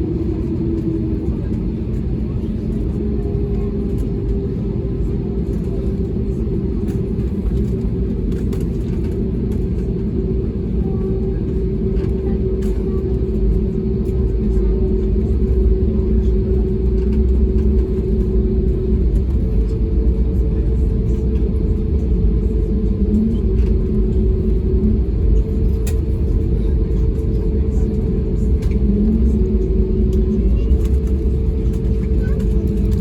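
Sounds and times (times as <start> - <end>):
aircraft engines in cabin: 0.0 - 33.0.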